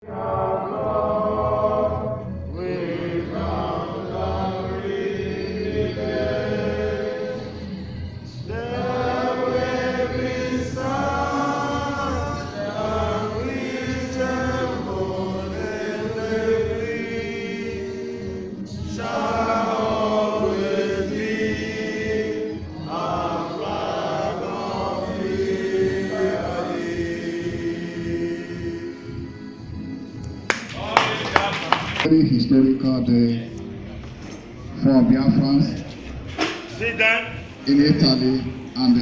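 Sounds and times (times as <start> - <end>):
group singing a chant: 0.0 - 32.0.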